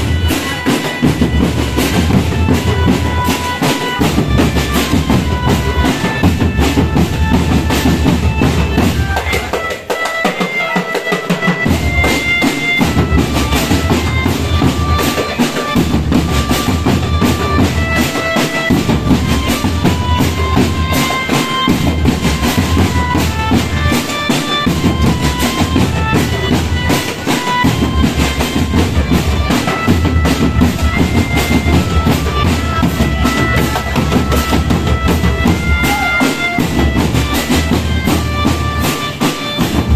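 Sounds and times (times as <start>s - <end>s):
reedy wind instrument melody: 0.0s - 39.9s
snare drumming: 0.1s - 39.9s.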